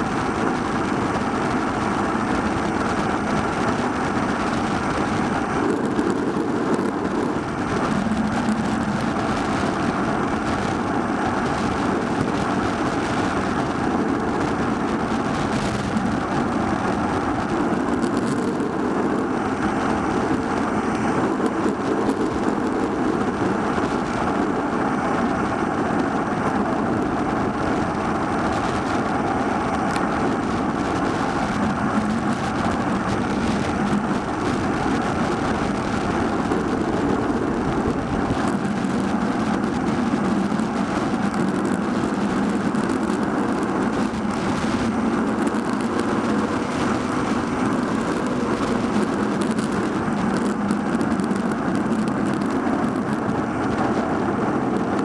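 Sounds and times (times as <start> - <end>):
bicycle road noise: 0.0 - 55.0
wind rushing: 0.0 - 55.0.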